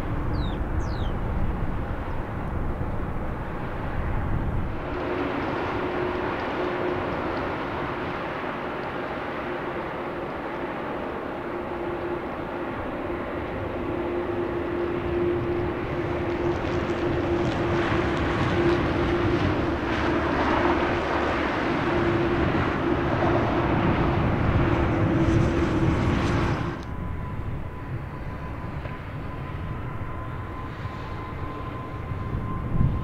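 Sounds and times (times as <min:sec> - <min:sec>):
faint steady engine whine: 0:00.0 - 0:33.0
jet engines roaring: 0:00.0 - 0:33.0.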